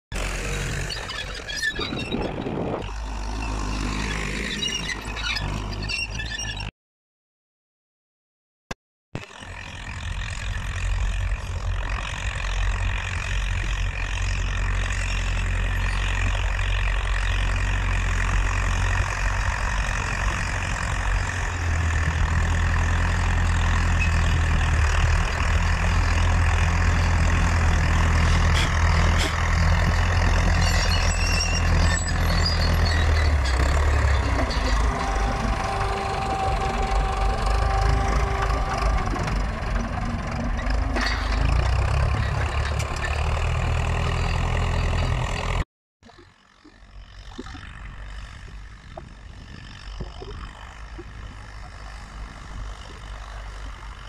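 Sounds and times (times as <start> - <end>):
tractor diesel engine droning: 0.1 - 6.7, 9.2 - 54.0.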